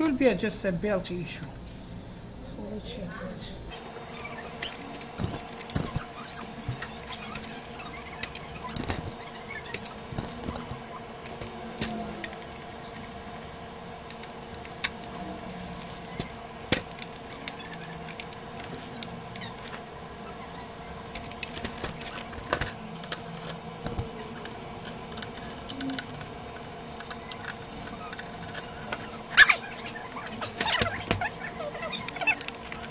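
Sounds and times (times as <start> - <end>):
faint hum: 0.0 - 32.9.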